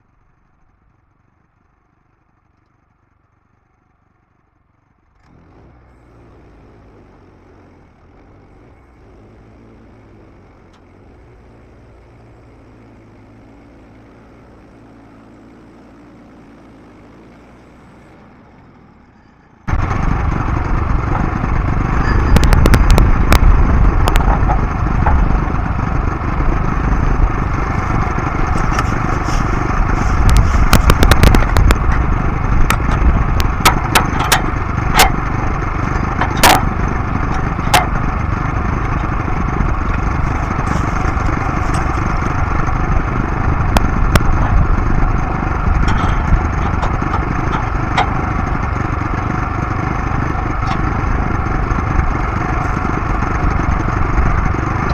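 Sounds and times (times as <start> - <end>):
gasoline engine running: 0.0 - 54.9.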